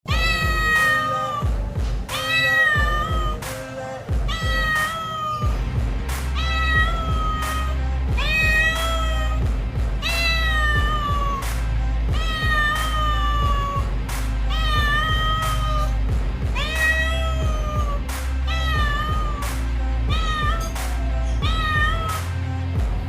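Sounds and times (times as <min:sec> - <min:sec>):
cat meowing: 0:00.1 - 0:03.5, 0:04.3 - 0:05.6, 0:06.4 - 0:11.5, 0:12.1 - 0:13.9, 0:14.5 - 0:22.3
background music with beat: 0:00.1 - 0:23.0.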